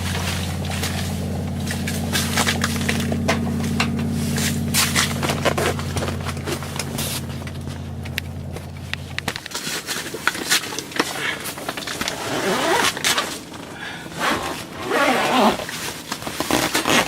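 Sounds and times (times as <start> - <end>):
car engine idling: 0.0 - 17.0
handling clicks and rustling: 0.0 - 17.0.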